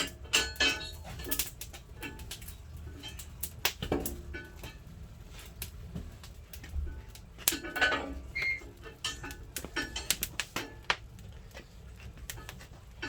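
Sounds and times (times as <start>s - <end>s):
firewood crackling in a stove: 0.0s - 13.0s.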